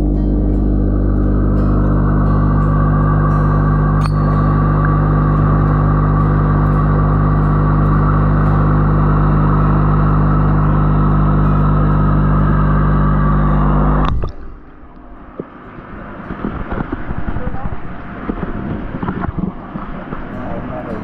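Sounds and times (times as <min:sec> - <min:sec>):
machine hum with buzz: 0:00.0 - 0:21.0.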